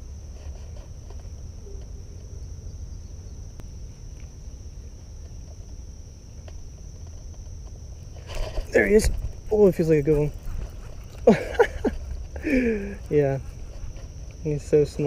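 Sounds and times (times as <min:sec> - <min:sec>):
constant low rumble: 0:00.0 - 0:15.0
insects droning: 0:00.0 - 0:15.0.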